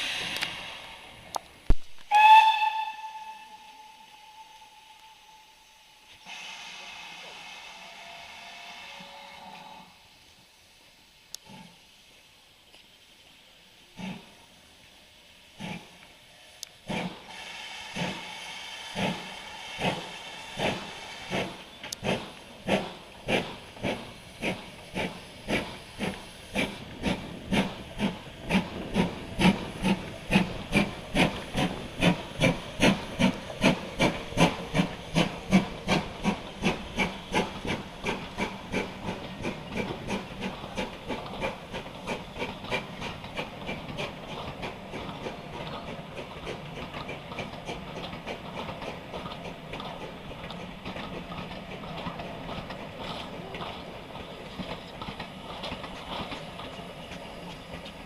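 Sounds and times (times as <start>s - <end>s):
steam locomotive chuffing: 0.0s - 1.4s, 2.1s - 10.2s, 13.3s - 58.0s
hiss of steam: 0.0s - 58.0s.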